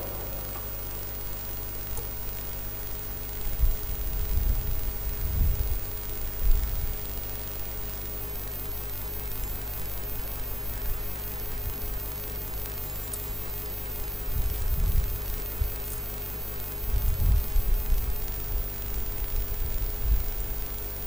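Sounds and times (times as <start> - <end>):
sound system hum and hiss: 0.0 - 21.0.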